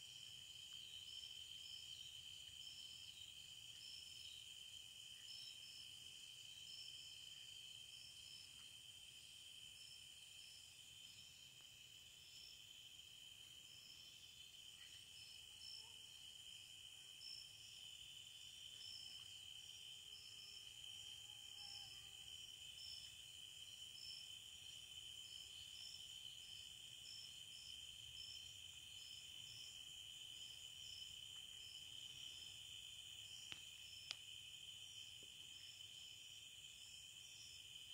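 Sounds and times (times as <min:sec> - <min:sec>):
crickets and insects chirping: 0:00.0 - 0:37.9.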